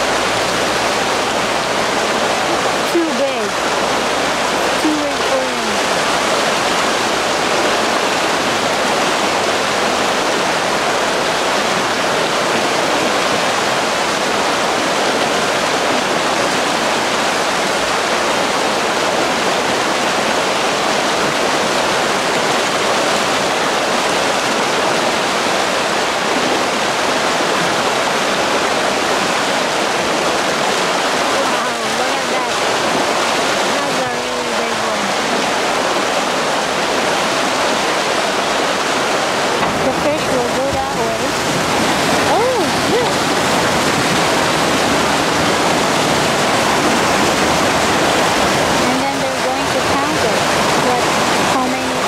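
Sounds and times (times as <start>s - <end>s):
river flowing over stones: 0.0s - 52.0s.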